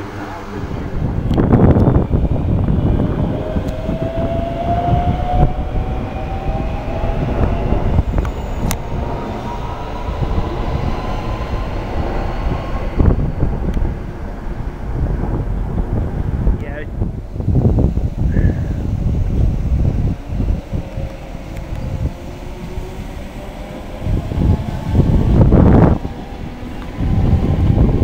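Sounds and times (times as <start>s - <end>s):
train traction motor whine: 0.0s - 16.4s, 17.0s - 28.0s
wheels rumbling on rail: 0.0s - 28.0s.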